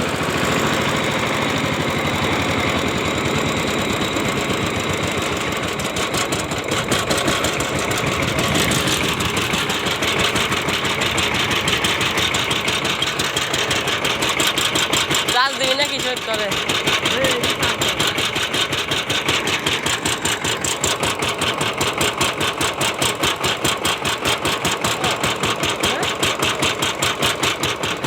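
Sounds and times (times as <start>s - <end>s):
diesel engine knocking: 0.0s - 28.0s.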